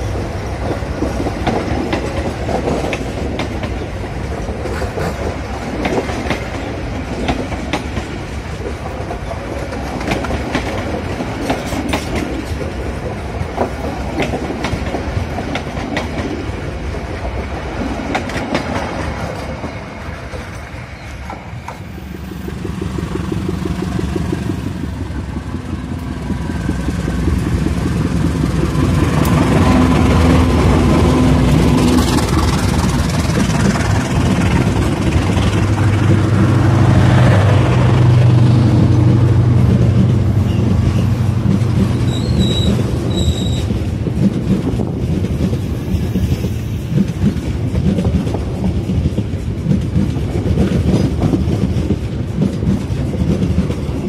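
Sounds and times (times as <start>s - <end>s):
diesel locomotive engine drone: 0.0s - 54.0s
train wheels clickety-clack: 0.0s - 54.0s.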